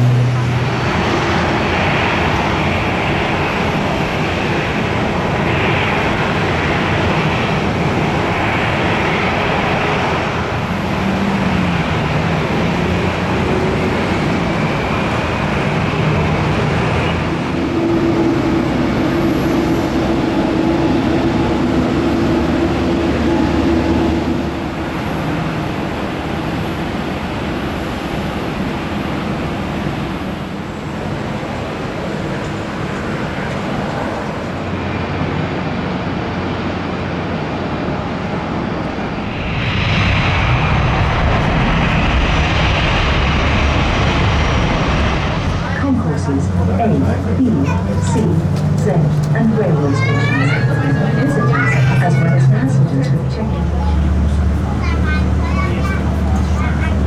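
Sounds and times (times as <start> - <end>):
electric train drive whine: 0.0 - 57.0.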